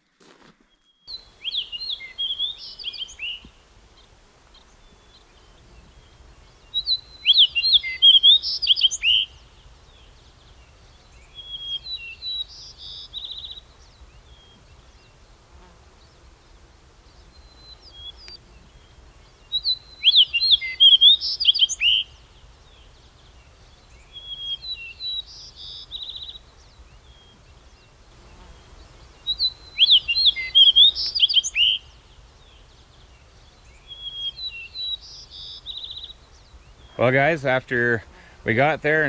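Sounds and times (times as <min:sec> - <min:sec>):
songbird singing: 0:00.6 - 0:39.0.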